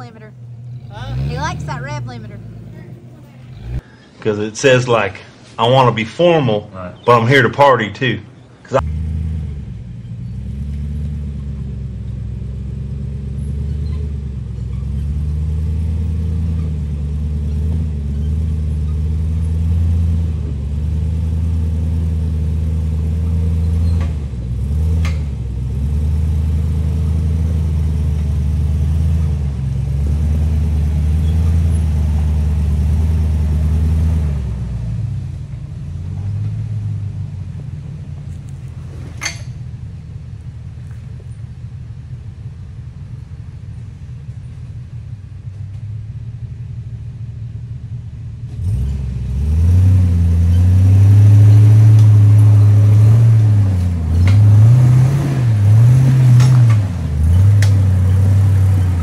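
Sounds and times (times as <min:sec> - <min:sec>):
vehicle engine running low: 0:00.0 - 0:59.0.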